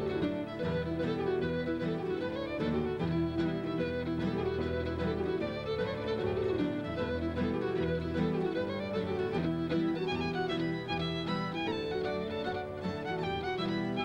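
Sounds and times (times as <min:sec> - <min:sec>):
fiddle playing a tune: 0:00.0 - 0:14.0.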